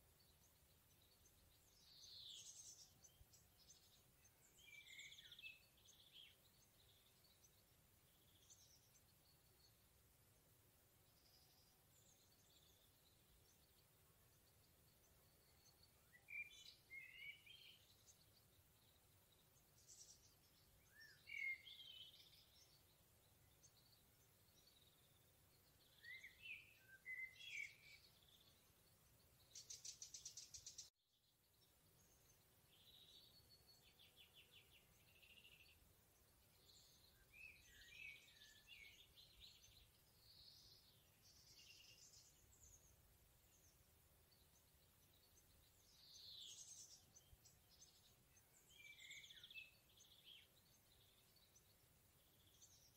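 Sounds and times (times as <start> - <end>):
songbirds singing: 0.0 - 52.9.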